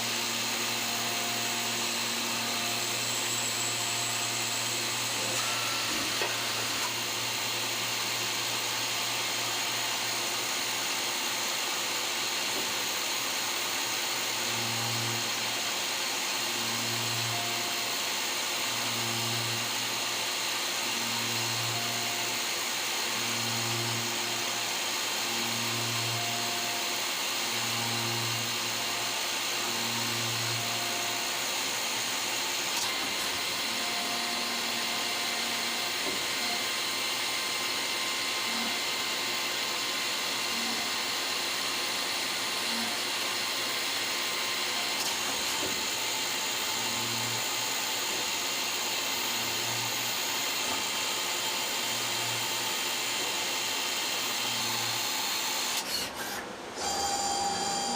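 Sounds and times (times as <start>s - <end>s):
lathe machine whir with hiss: 0.0s - 57.9s.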